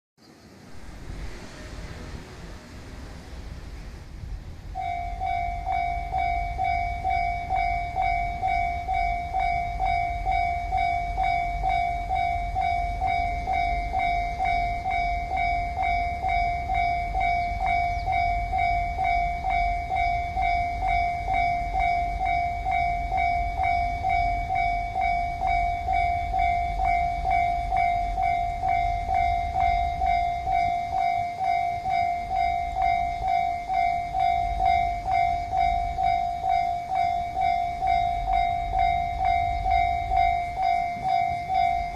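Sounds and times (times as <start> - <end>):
level crossing warning bell: 4.5 - 41.9.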